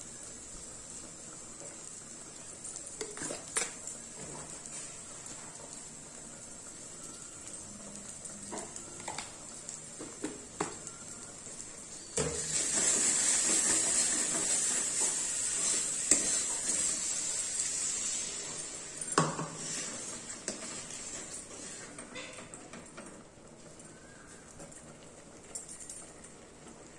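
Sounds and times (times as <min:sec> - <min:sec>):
fish sizzling: 0:00.0 - 0:26.9.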